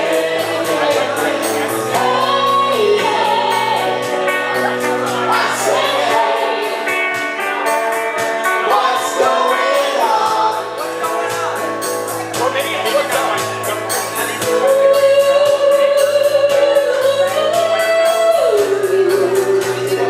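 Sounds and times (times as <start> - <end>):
person singing: 0.0 - 11.6, 13.7 - 20.0
pop-rock band playing: 0.0 - 20.0.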